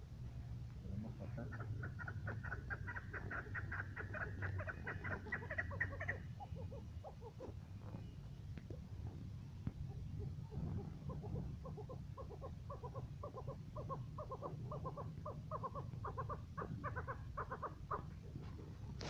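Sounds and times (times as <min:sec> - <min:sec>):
partridge clucking calls: 0:00.9 - 0:19.0.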